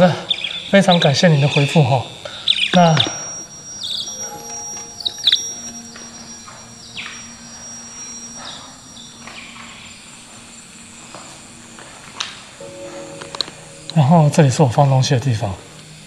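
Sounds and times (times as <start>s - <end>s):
high-pitched insect trill: 0.0s - 16.0s
insects chirping: 0.0s - 16.0s.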